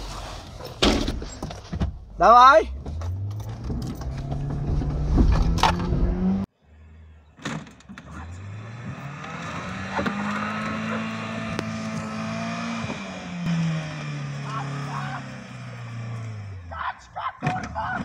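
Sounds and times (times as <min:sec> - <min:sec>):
car engine revving under load: 0:00.0 - 0:06.5, 0:07.9 - 0:16.8.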